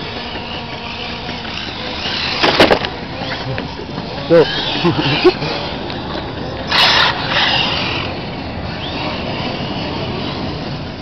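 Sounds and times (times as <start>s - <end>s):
toy car motor whining: 0.0s - 11.0s.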